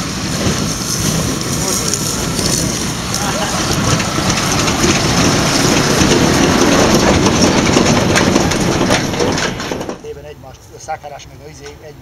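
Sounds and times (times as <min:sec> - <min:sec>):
truck engine running: 0:00.0 - 0:10.1
trailer rattling over rough ground: 0:00.0 - 0:11.3.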